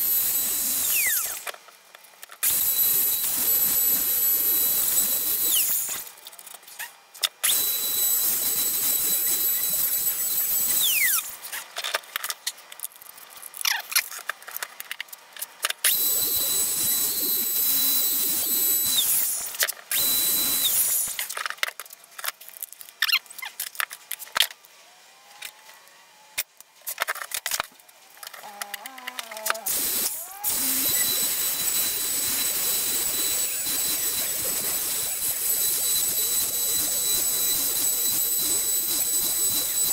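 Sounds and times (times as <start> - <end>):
router whining and spinning down: 0.0 - 12.4, 15.4 - 39.9.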